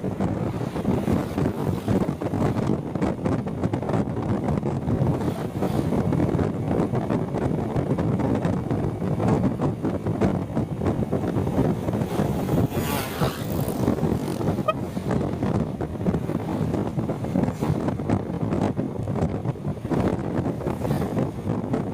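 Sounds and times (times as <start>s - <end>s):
road and traffic noise: 0.0s - 21.9s
wind buffeting microphone: 0.0s - 21.9s.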